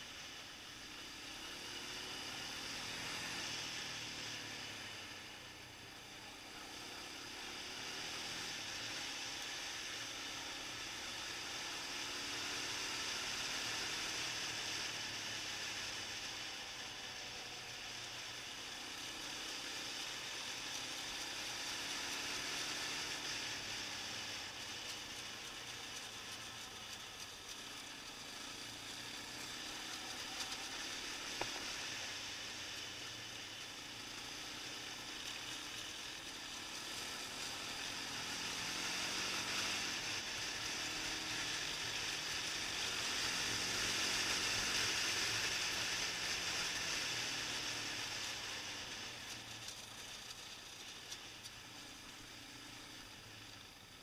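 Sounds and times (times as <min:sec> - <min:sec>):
faint quad bike engine: 0:00.0 - 0:54.0.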